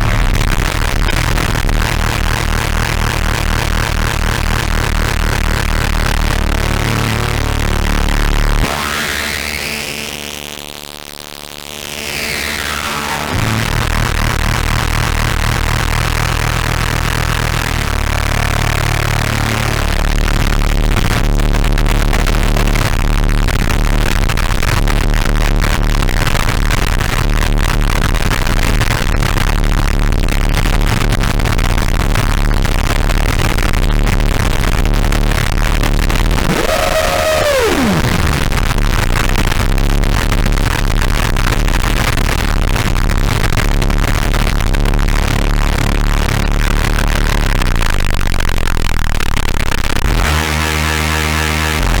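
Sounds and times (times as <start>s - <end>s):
distorted synth strings: 0.0s - 10.5s, 11.9s - 52.0s
heavy bass: 0.0s - 52.0s.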